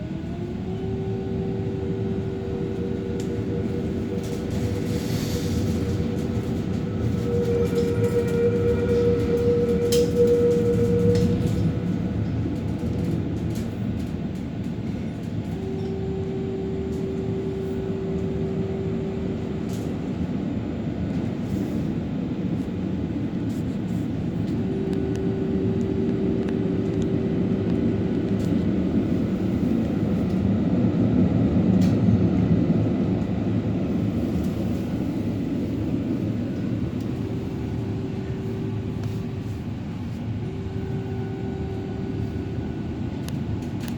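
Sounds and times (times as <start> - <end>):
steady hum: 0.0 - 43.9
tram rolling rumble: 0.0 - 43.9.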